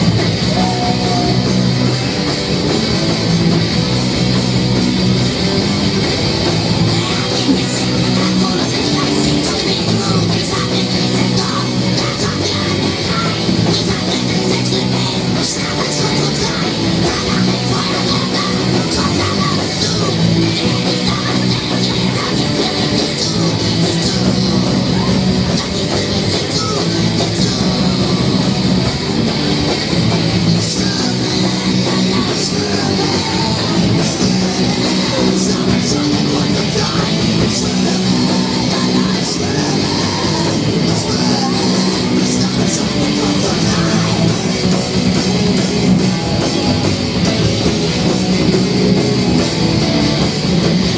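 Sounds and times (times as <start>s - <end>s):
punk rock band playing: 0.0s - 50.9s.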